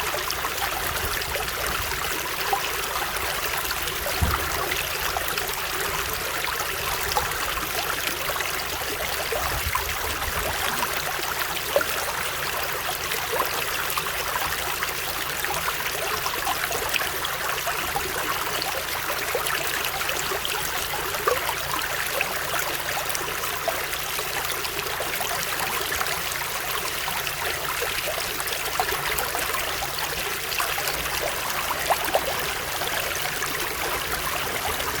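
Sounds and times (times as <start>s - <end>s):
stream water flowing: 0.0s - 35.0s.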